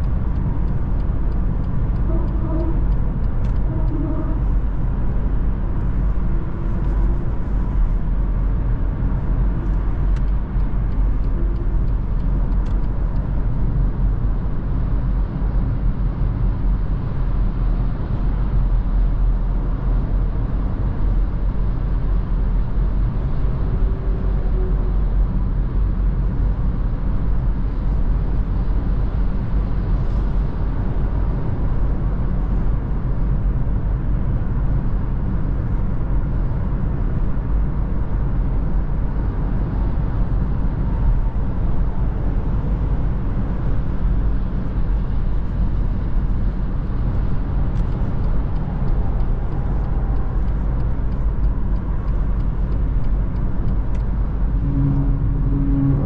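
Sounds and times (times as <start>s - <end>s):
diesel engine running evenly: 0.0s - 56.0s
road and tyre rumble: 0.0s - 56.0s.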